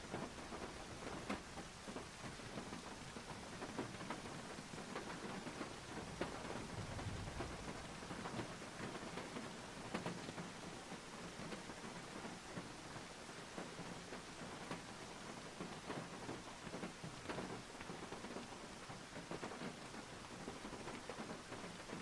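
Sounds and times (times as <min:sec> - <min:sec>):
rain on a tin roof: 0:00.0 - 0:22.0.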